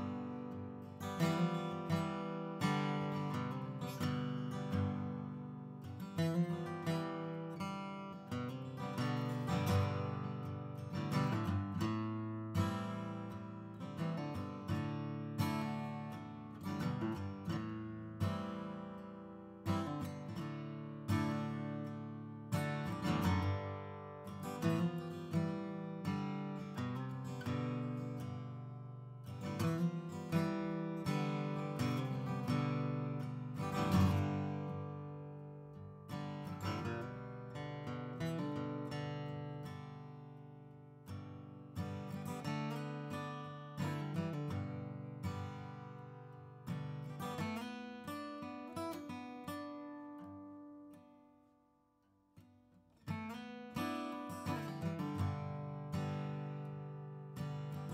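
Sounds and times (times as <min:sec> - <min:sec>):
acoustic guitar strumming: 0:00.0 - 0:51.2, 0:53.0 - 0:57.9.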